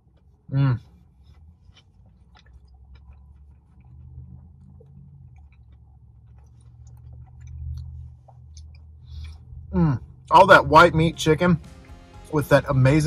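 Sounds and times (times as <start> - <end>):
man chewing crispy food: 0.0 - 10.6, 11.2 - 12.3
low hum: 0.0 - 13.0.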